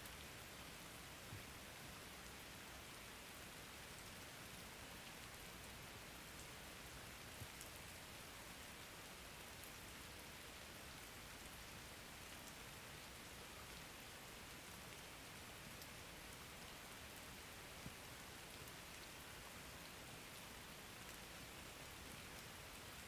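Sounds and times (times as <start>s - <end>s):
faint rain falling: 0.0s - 23.0s.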